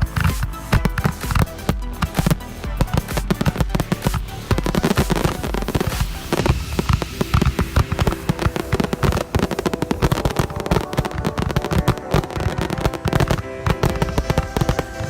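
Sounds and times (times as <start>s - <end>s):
fireworks fountain crackling: 0.0s - 15.0s
music playing: 0.0s - 15.0s.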